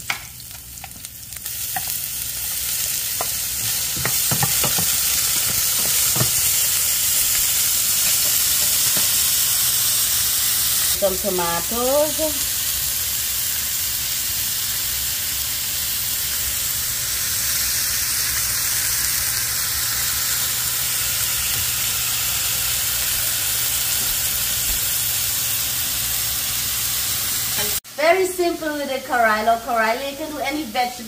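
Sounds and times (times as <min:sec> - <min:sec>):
onion frying in oil: 0:00.0 - 0:31.0.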